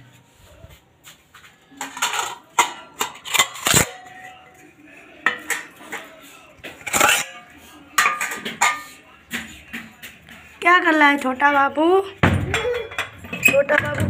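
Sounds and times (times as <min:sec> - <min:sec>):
dishes and cutlery clattering: 0:01.7 - 0:14.0.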